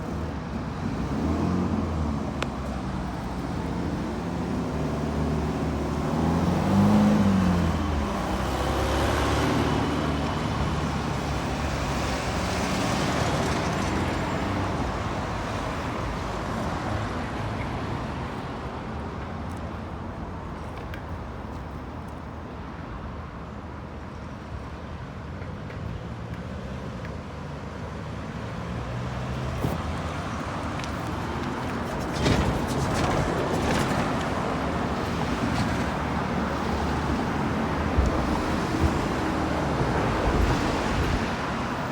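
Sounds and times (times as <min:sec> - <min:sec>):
vehicles driving past: 0:00.0 - 0:41.9.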